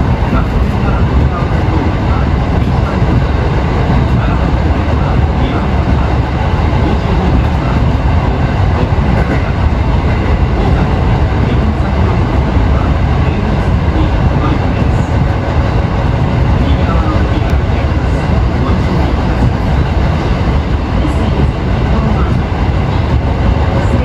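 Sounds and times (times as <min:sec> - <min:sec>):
train wheels rumbling in tunnel: 0:00.0 - 0:24.0.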